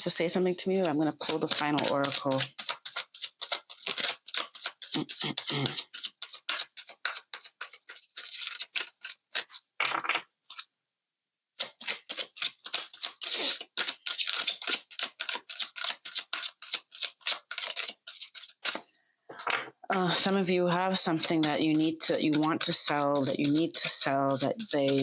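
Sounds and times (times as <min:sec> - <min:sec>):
cards being shuffled: 0:00.8 - 0:10.7, 0:11.6 - 0:18.8, 0:20.9 - 0:25.0.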